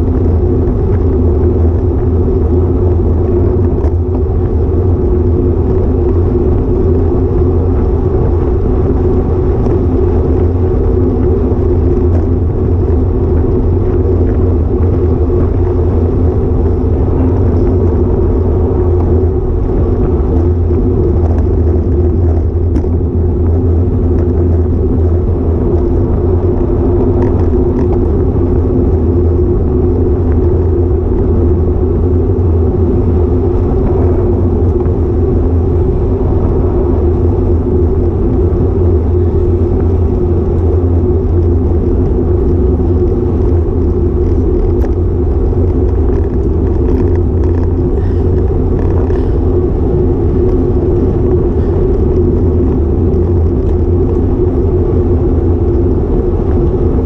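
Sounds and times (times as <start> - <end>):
road noise: 0.0 - 57.0
wind buffeting microphone: 0.0 - 57.0.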